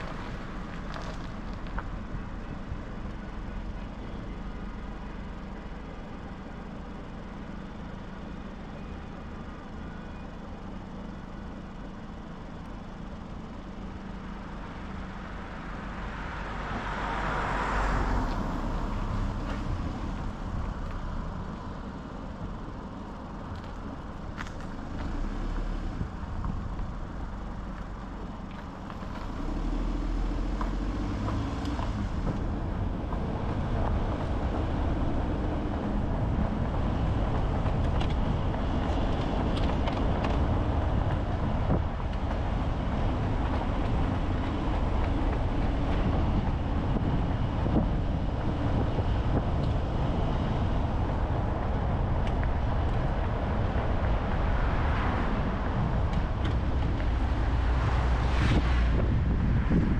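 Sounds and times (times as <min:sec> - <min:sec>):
car engine and tyre road noise: 0:00.0 - 0:59.9.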